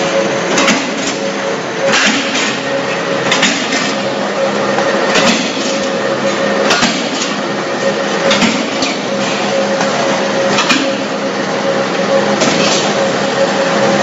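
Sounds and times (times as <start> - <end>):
punching machine hum and whine: 0.0 - 14.0.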